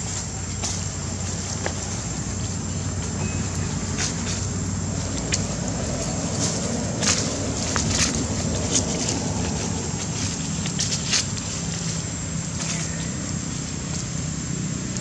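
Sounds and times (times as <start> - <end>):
dry leaves crackling: 0.0 - 15.0
steady low rumble: 0.0 - 15.0.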